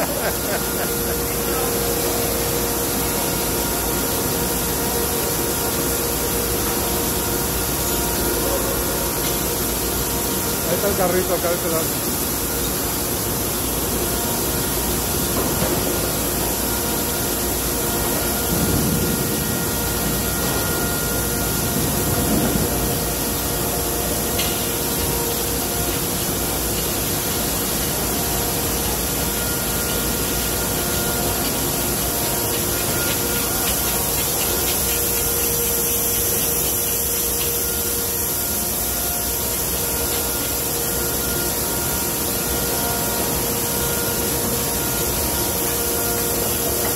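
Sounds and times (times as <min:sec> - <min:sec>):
machinery hiss: 0:00.0 - 0:46.9
steady humming tones: 0:00.0 - 0:46.9.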